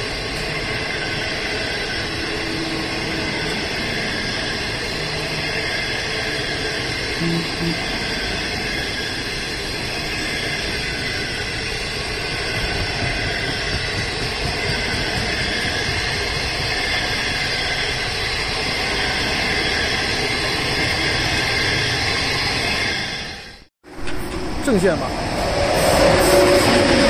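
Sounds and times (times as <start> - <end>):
train coaches rolling past: 0.0 - 27.0.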